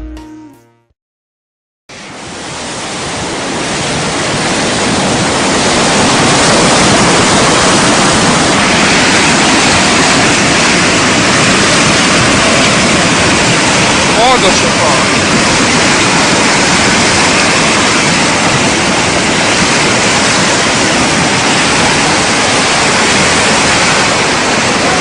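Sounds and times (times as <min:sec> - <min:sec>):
rushing water: 0:01.9 - 0:25.0.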